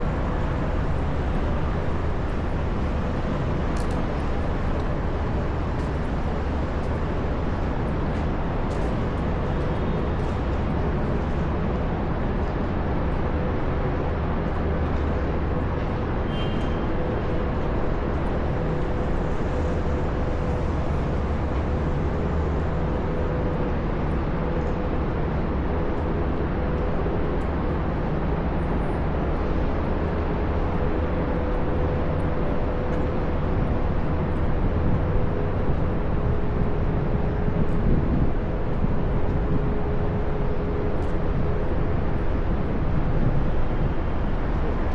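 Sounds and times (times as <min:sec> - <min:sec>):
constant hum: 0:00.0 - 0:44.9
rumble of vehicles: 0:00.0 - 0:44.9.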